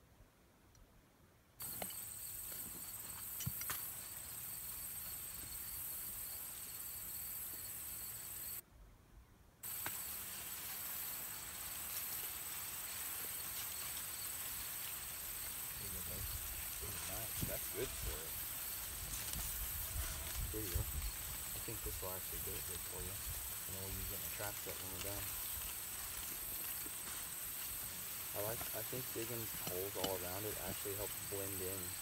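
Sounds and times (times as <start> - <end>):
insect chorus buzzing: 1.6 - 8.6, 9.6 - 32.0.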